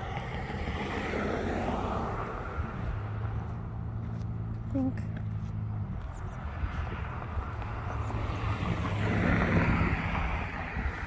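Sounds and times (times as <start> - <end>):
car road noise passing: 0.0 - 11.0
low engine hum: 0.0 - 11.0.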